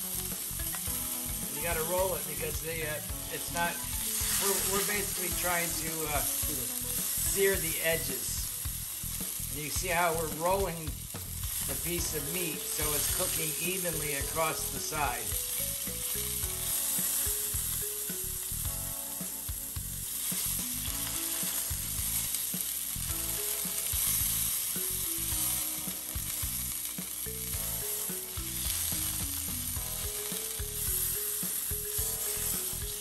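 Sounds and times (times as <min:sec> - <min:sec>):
meat sizzling in oil: 0:00.0 - 0:33.0.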